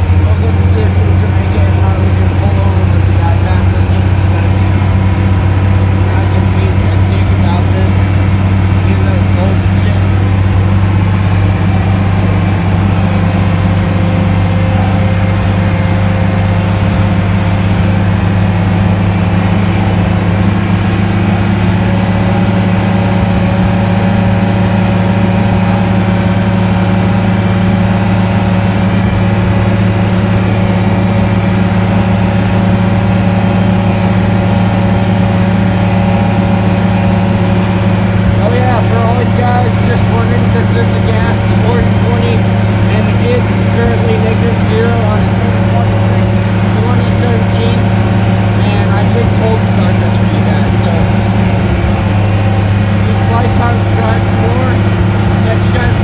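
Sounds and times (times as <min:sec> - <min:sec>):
large engine humming steadily: 0:00.0 - 0:56.0.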